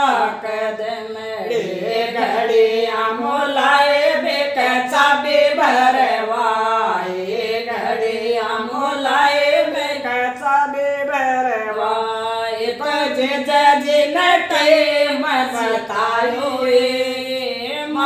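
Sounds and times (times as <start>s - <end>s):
women singing unaccompanied: 0.0s - 18.0s.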